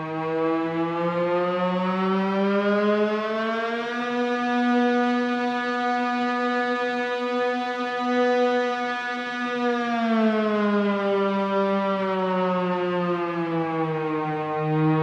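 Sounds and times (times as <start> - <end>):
synth tone imitating a siren: 0.0 - 15.0.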